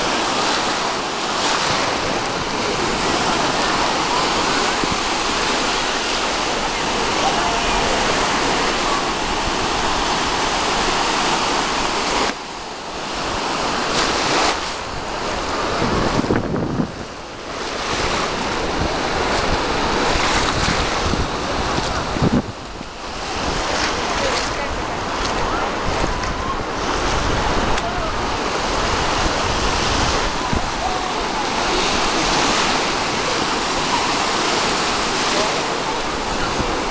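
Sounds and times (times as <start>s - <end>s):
small waves washing on shore: 0.0s - 36.9s
wind buffeting microphone: 1.2s - 36.9s.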